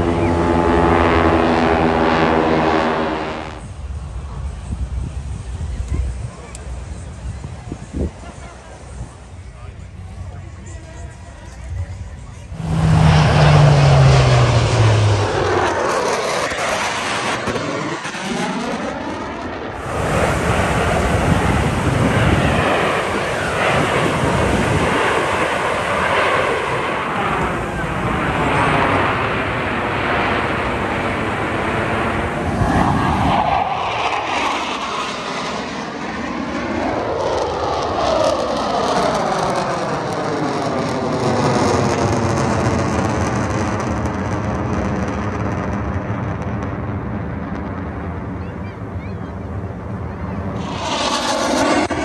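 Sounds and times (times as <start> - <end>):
aircraft engine rushing past: 0.0 - 52.0.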